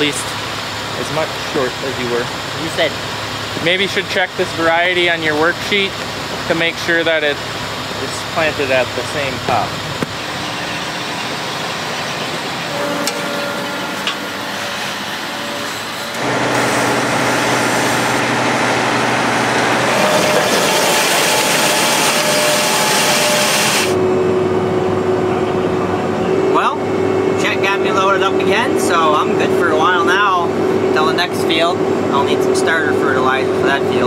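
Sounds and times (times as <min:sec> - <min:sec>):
vehicle running: 0:00.0 - 0:34.0.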